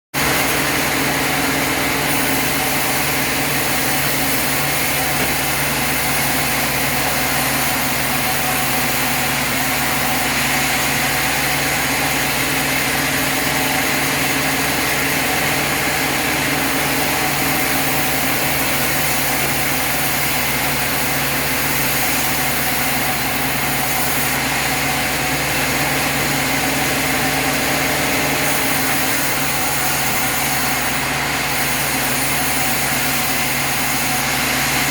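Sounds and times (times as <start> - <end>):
sawmill machinery humming: 0.2 - 34.9.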